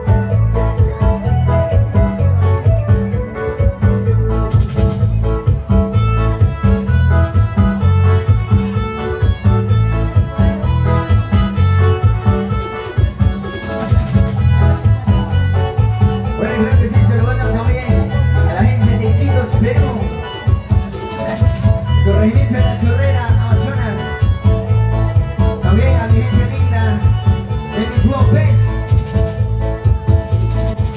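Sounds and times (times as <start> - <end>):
live cumbia band music: 0.0 - 30.9.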